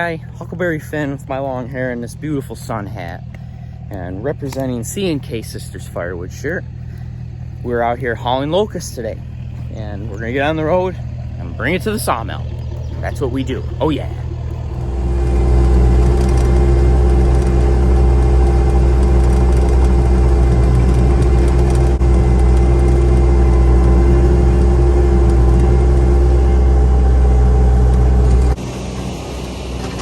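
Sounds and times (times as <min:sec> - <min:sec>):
steady engine whine: 0:00.0 - 0:30.0
truck engine drone: 0:00.0 - 0:30.0.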